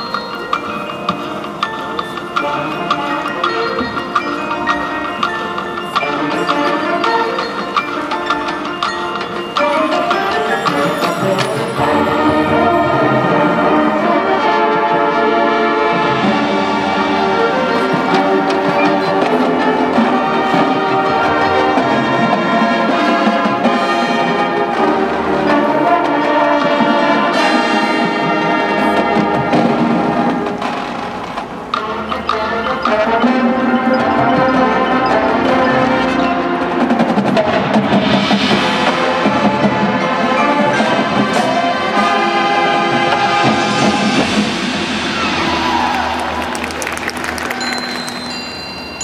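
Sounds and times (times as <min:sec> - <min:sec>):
marching band playing: 0:00.0 - 0:49.0.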